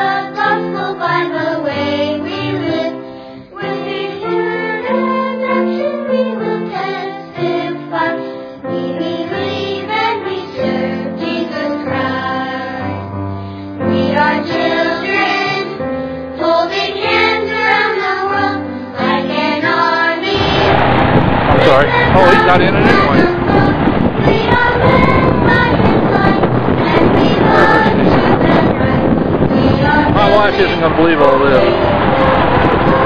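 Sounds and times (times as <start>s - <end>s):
song with singing voices: 0.0s - 13.1s, 16.4s - 33.0s.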